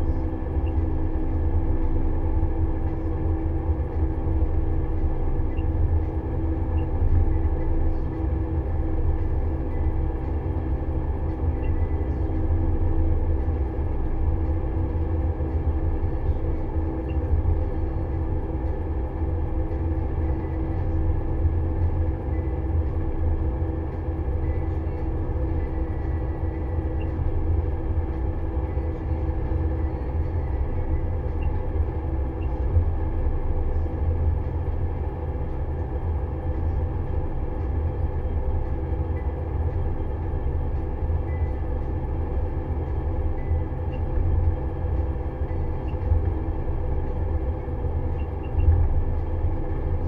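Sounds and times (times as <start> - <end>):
harvester engine and machinery drone: 0.0 - 50.0
hum: 0.0 - 50.0.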